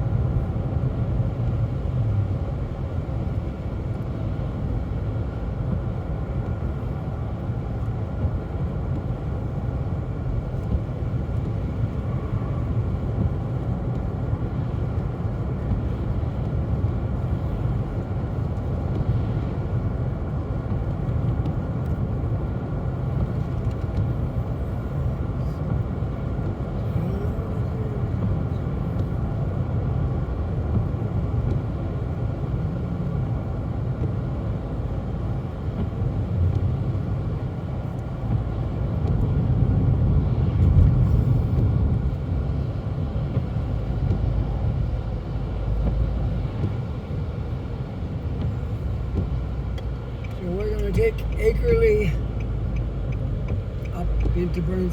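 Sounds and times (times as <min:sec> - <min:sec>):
car interior engine and tyre rumble: 0:00.0 - 0:54.9.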